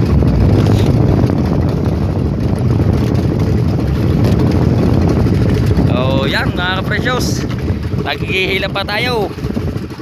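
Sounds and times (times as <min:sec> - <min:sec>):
boat engine rumbling: 0:00.0 - 0:10.0
water washing against hull: 0:00.0 - 0:10.0.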